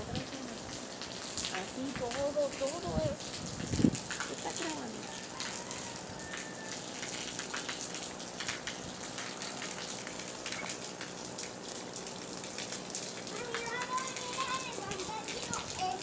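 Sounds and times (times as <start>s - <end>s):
raindrops pattering on surfaces: 0.0s - 16.0s
steady rain hiss: 0.0s - 16.0s.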